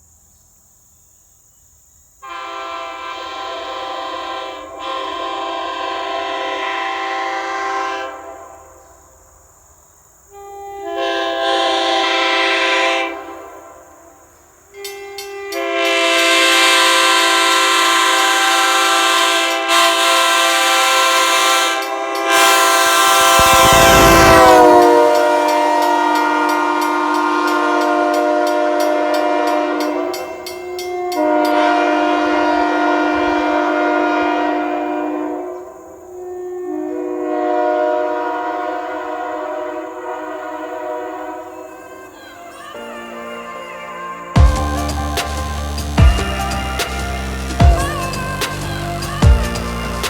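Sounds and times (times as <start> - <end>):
locomotive air horn blasts: 2.2 - 8.9, 10.3 - 42.1, 44.4 - 50.0.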